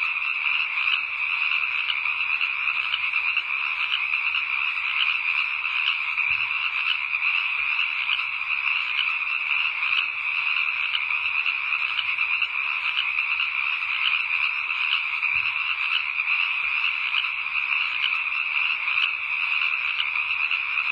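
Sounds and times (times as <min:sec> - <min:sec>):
frogs calling: 0:00.0 - 0:20.9.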